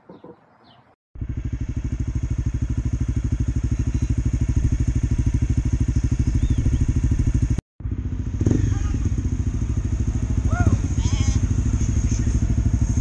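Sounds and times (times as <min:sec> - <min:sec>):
motorcycle engine idling: 0:01.2 - 0:13.0.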